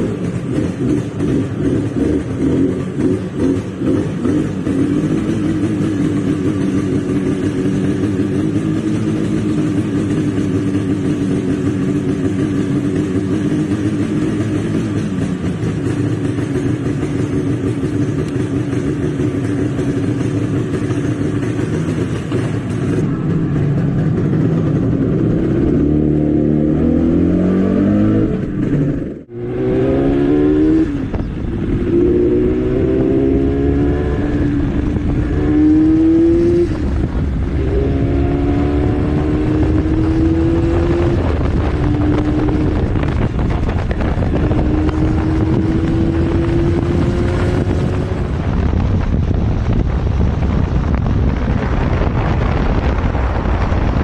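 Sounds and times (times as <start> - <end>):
motorcycle engine shifting gears: 0.0 - 54.0
wind and road noise: 0.0 - 54.0.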